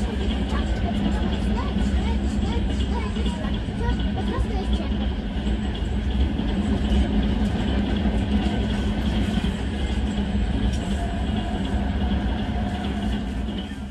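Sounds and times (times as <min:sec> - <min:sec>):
freight train rumbling on rails: 0:00.0 - 0:13.9.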